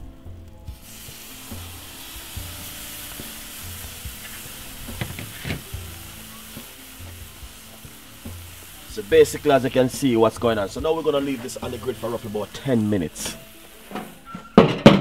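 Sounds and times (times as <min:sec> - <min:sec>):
background music with low beat: 0:00.0 - 0:15.0
liquid sizzling on hot grill: 0:00.2 - 0:15.0.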